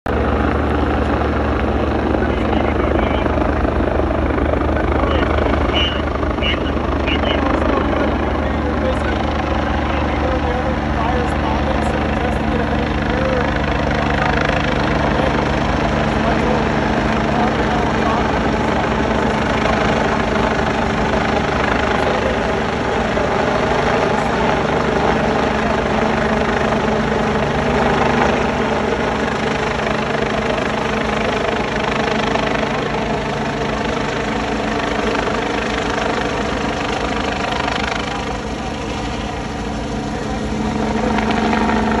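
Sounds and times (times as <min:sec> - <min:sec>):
helicopter flying overhead: 0:00.1 - 0:42.0.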